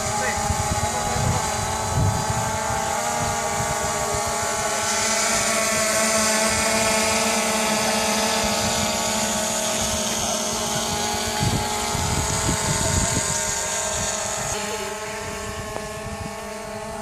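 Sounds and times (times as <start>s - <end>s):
quadcopter propellers humming: 0.0s - 17.0s
wind buffeting microphone: 0.0s - 17.0s.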